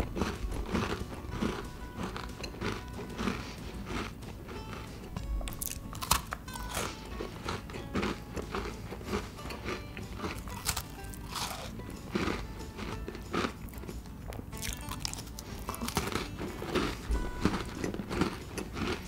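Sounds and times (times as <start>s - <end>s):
background music: 0.0s - 19.0s
cookie crunching: 0.0s - 19.0s.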